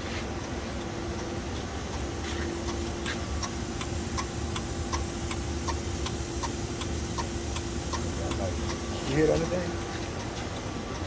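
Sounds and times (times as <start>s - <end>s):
steady low hum: 0.0s - 11.0s
sharp regular ticking: 1.2s - 10.7s.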